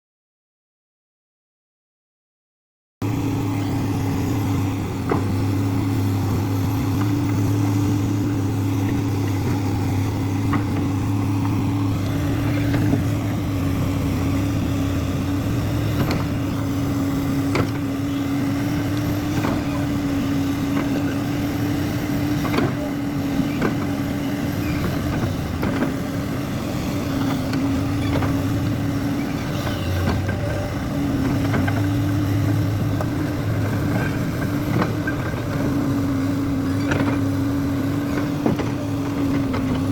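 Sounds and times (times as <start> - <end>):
excavator diesel engine running: 3.0 - 39.9.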